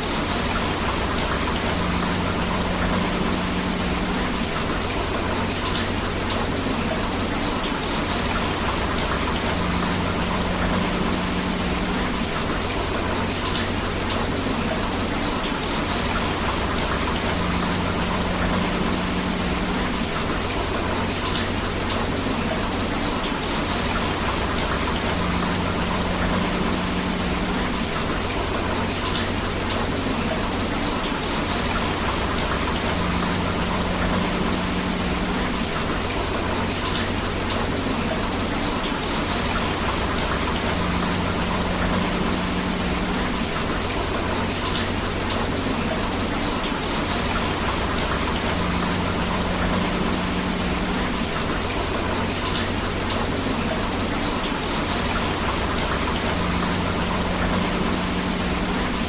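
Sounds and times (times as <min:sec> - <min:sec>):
rushing river: 0:00.0 - 0:59.0
steady rain: 0:00.0 - 0:59.0.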